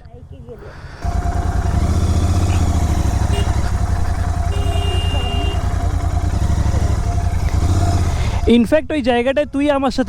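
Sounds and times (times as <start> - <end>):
motorcycle engine rumble: 0.0 - 8.9
road noise: 0.0 - 10.0.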